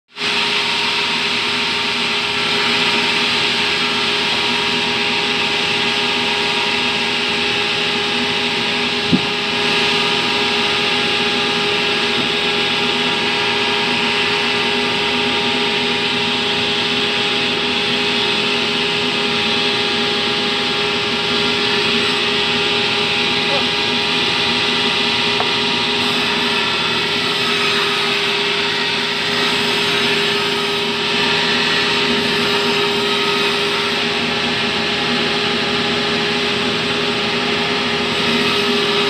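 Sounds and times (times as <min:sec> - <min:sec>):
band sawmill cutting log: 0:00.2 - 0:39.0.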